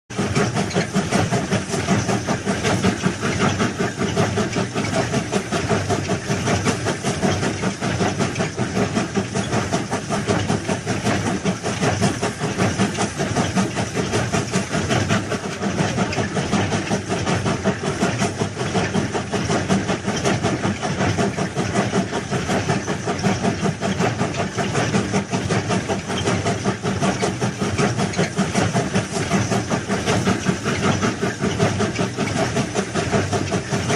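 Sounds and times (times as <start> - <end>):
train running: 0.1 - 33.9.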